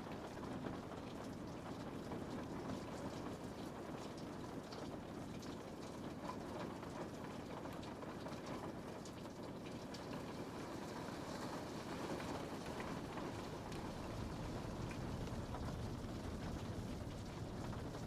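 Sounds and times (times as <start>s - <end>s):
rain on window: 0.0s - 18.0s.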